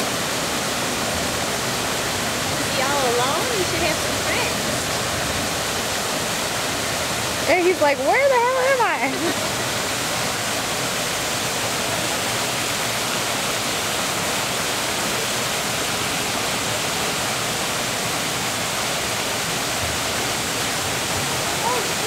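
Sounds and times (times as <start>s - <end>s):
waterfall splashing into pool: 0.0s - 22.0s.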